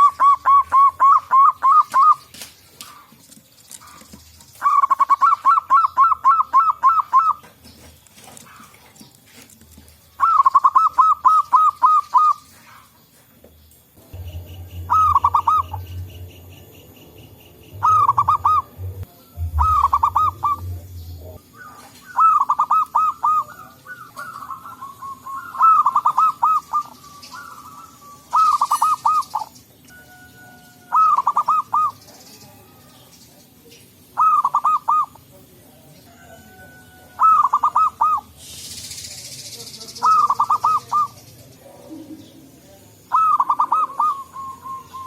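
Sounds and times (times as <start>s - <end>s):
doves cooing: 0.0s - 33.1s, 33.7s - 35.3s, 36.0s - 38.4s, 40.0s - 45.0s.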